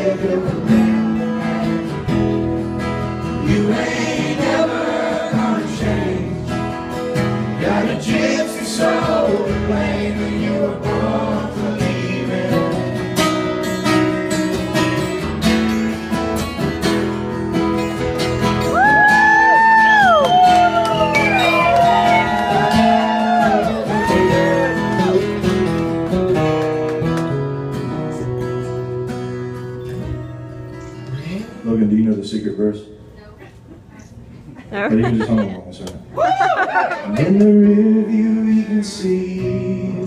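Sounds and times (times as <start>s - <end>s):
acoustic guitars strummed: 0.0s - 32.4s, 37.0s - 40.0s.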